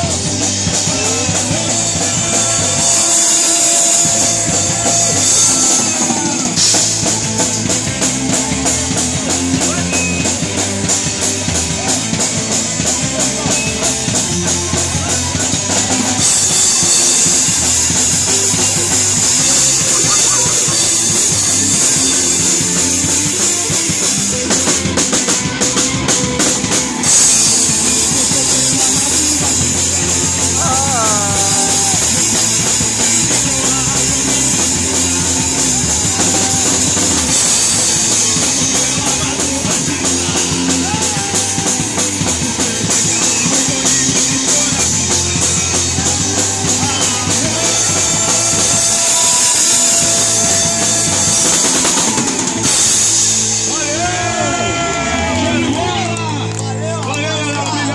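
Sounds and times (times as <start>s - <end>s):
punk band playing loud and fast: 0.0s - 57.9s.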